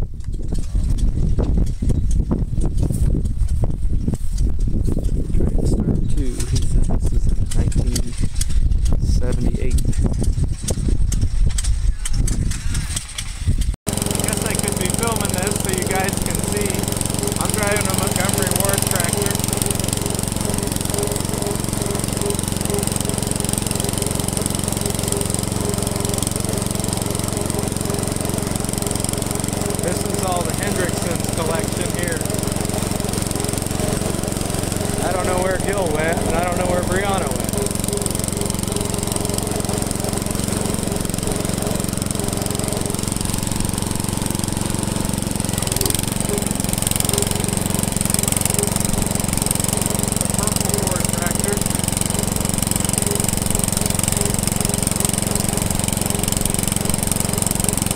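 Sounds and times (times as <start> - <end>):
small engine running: 0.0 - 57.9.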